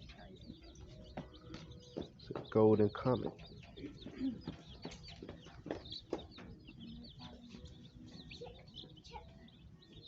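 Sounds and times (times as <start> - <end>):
baby chicks peeping: 0.0 - 10.0.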